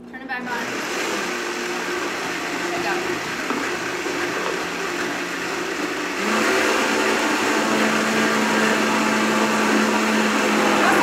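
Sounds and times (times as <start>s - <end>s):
blender motor running: 0.3s - 11.0s.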